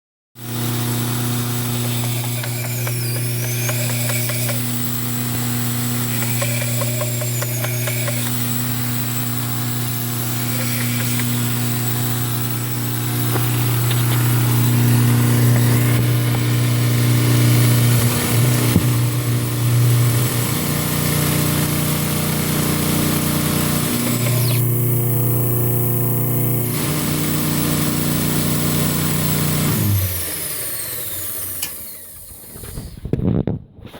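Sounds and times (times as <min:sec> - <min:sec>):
belt grinder motor humming: 0:00.4 - 0:33.0.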